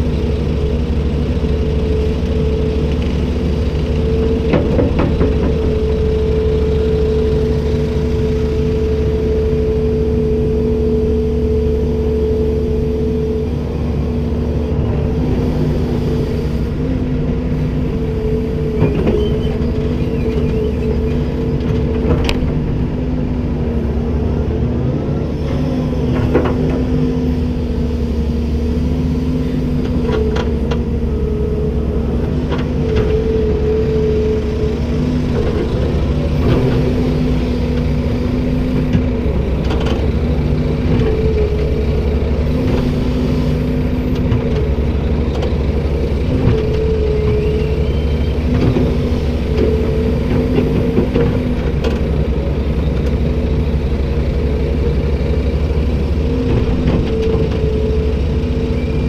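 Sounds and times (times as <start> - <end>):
excavator engine rumble with whine: 0.0 - 59.0.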